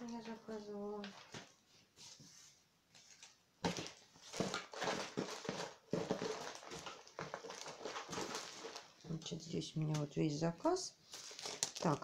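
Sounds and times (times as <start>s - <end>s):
plastic bags and paper crinkling: 0.0s - 12.0s.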